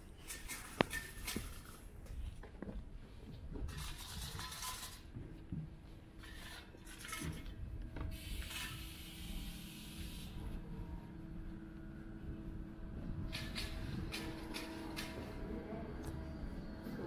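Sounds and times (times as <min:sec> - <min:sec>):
faint steady hum: 0:00.0 - 0:17.0
low street rumble: 0:00.0 - 0:17.0.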